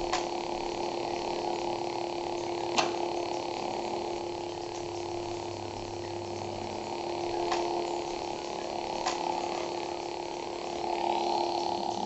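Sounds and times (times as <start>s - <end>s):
lightsaber electric hum: 0.0s - 12.0s.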